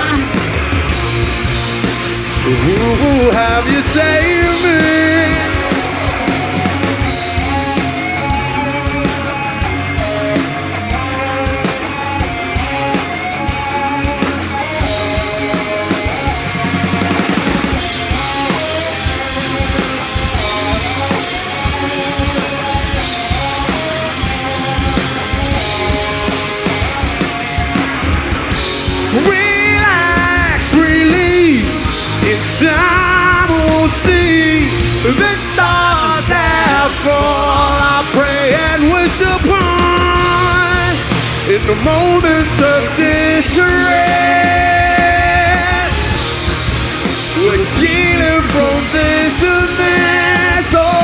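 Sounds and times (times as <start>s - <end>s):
drum kit beat: 0.0s - 51.0s
rock band playing instrumental: 0.0s - 51.0s.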